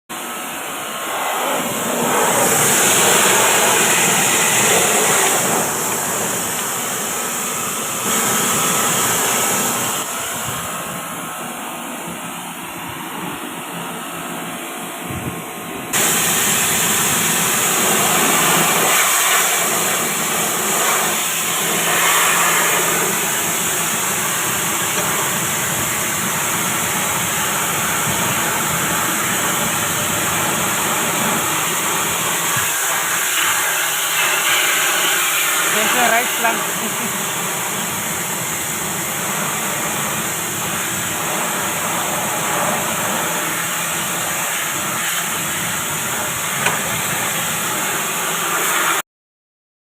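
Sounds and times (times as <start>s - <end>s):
pressure washer water spray: 0.2s - 11.2s, 15.9s - 49.0s.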